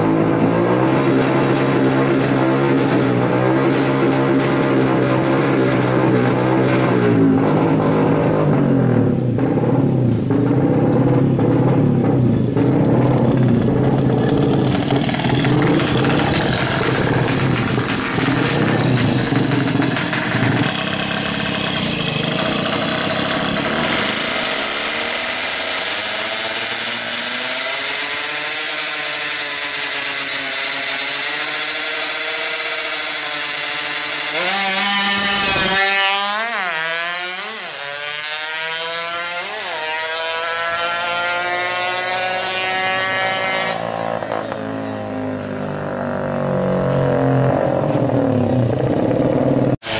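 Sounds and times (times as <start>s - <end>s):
two-stroke engine revving: 0.0s - 49.9s.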